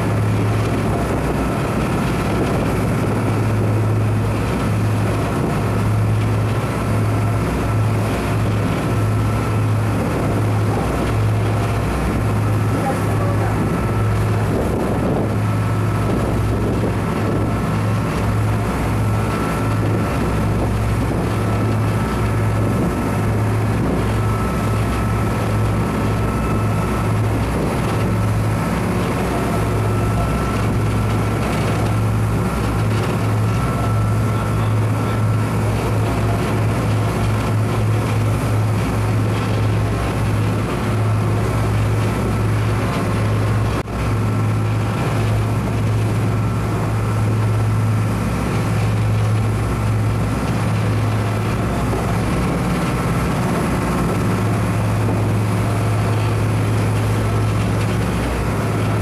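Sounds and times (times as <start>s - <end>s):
ship engines droning: 0.0s - 59.0s.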